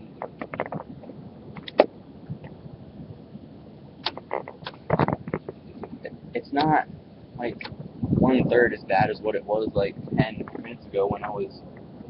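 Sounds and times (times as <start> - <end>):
rain and wind hiss: 0.2 - 12.0.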